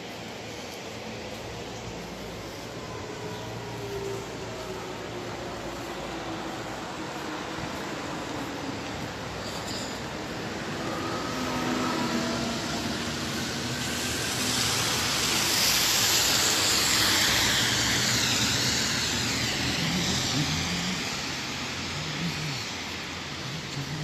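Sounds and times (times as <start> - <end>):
rain hissing: 0.0 - 24.0
tyres swishing on wet road: 0.0 - 24.0.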